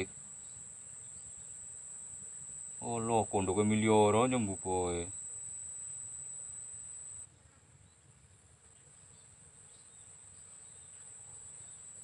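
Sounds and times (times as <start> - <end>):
insects trilling: 0.0 - 7.3, 9.1 - 12.0
background hiss: 0.0 - 12.0.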